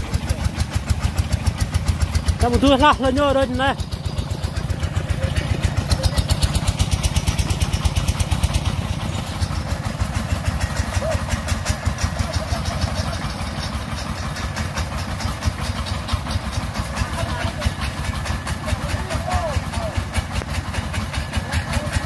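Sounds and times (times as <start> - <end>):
diesel engine chugging: 0.0 - 22.0.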